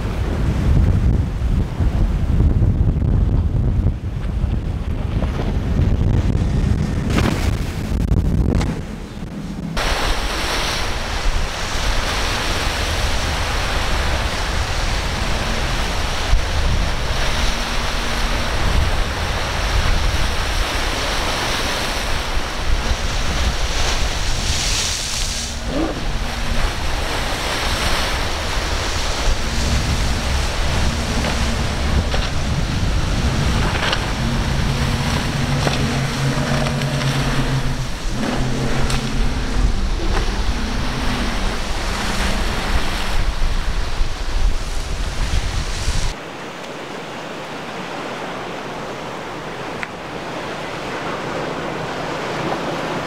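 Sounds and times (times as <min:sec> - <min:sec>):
wind buffeting microphone: 0:00.0 - 0:46.2
outboard engines droning: 0:00.0 - 0:53.0
surf: 0:00.0 - 0:53.0.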